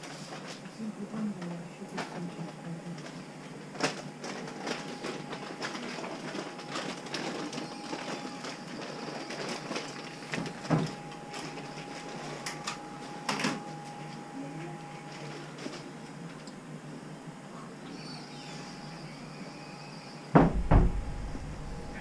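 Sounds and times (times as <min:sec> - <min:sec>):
shop room noise: 0:00.0 - 0:22.0.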